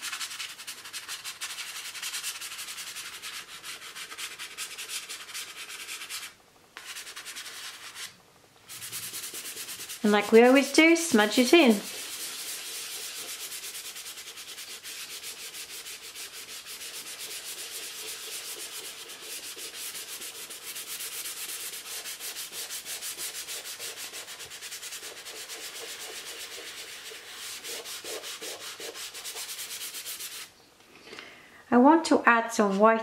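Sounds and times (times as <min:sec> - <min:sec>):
fingers rubbing pastel on paper: 0:00.0 - 0:08.1, 0:08.7 - 0:30.5.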